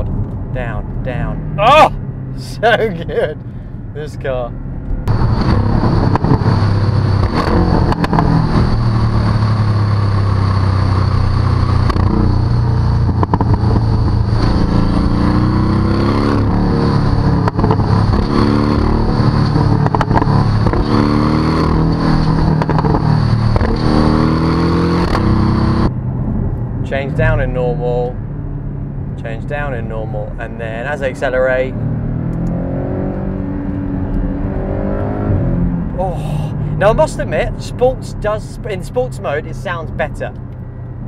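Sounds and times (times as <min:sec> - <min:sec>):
car engine accelerating: 0:04.5 - 0:41.0.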